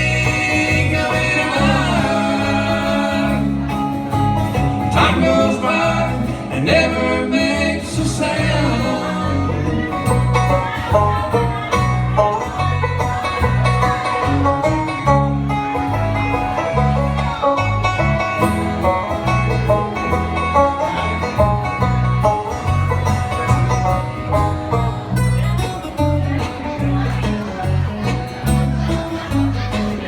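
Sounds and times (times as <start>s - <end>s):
banjo picking: 0.0s - 30.0s
bass line: 0.0s - 30.0s
guitar: 0.0s - 30.0s.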